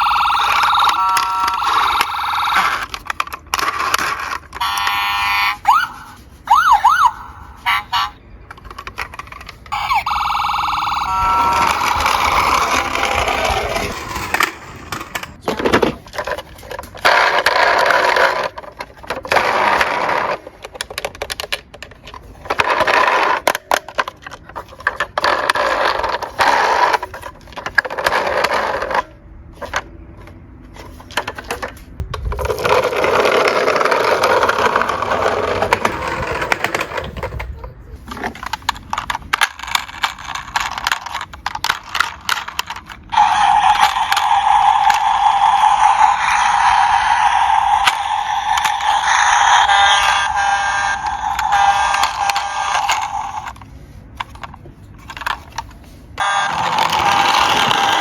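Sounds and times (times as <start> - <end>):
toy cars rolling and rattling: 0.0 - 58.0
scraping: 10.5 - 58.0.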